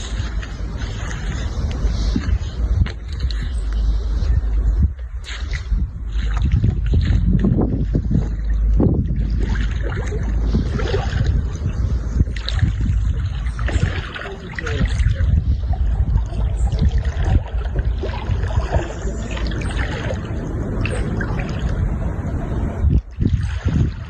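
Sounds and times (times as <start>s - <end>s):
rushing floodwater: 0.0s - 4.1s, 5.2s - 24.0s
wind on microphone: 0.0s - 24.0s.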